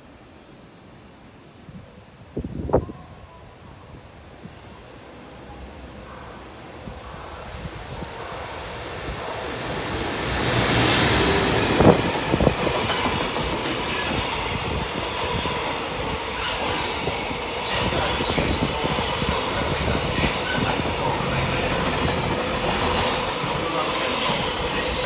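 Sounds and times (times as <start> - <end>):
electric locomotive passing: 2.8 - 25.0.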